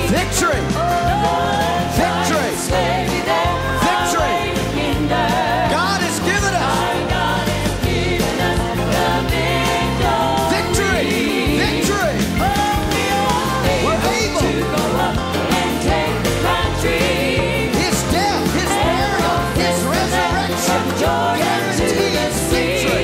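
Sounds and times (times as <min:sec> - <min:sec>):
people singing worship song: 0:00.0 - 0:23.0.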